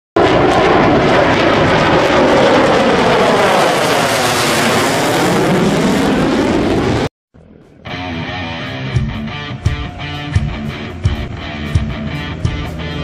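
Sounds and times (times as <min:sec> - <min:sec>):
jet aircraft flying low: 0:00.2 - 0:13.0.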